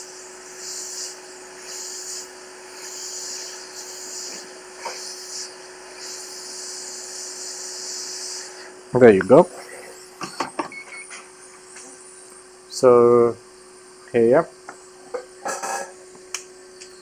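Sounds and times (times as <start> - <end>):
hot air station hissing: 0.0 - 16.0
steady hum: 0.0 - 17.0.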